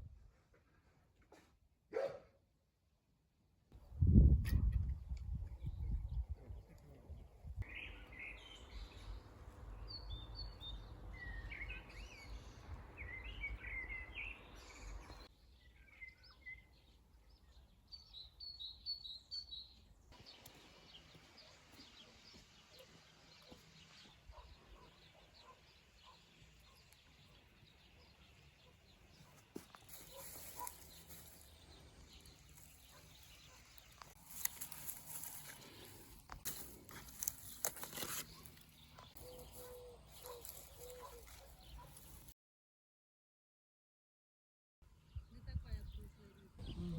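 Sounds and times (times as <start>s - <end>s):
small birds chirping: 4.8s - 42.3s, 44.9s - 46.9s.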